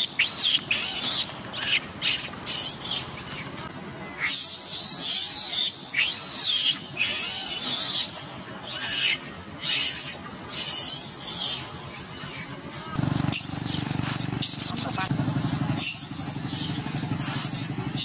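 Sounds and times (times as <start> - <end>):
monkeys screeching: 0.0 - 15.1, 15.7 - 18.0.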